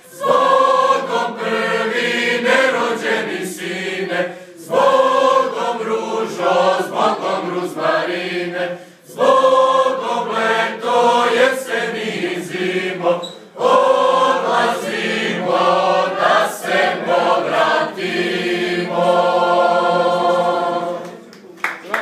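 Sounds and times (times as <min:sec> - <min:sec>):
mixed choir singing a cappella: 0:00.0 - 0:21.2.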